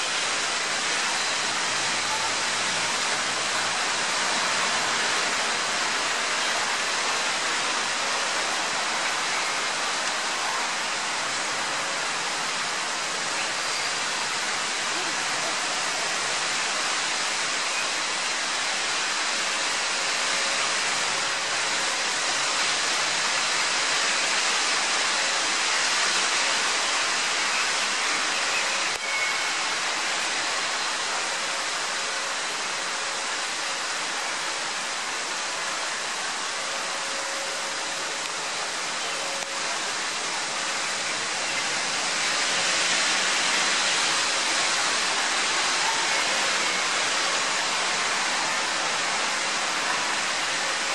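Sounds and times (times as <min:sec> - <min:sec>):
heavy rain on street: 0:00.0 - 0:50.9.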